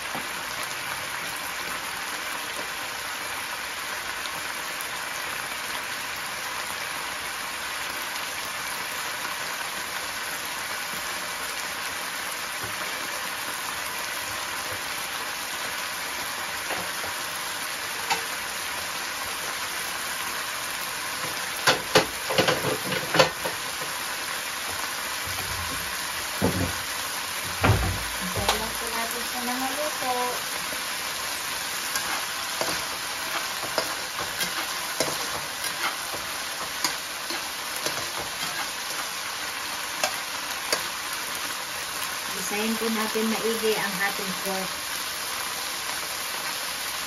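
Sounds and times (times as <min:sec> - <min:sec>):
pork sizzling in oil: 0:00.0 - 0:47.0.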